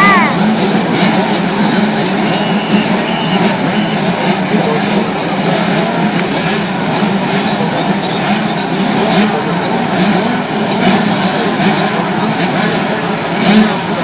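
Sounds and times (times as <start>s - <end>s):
motocross bikes racing: 0.0s - 14.0s.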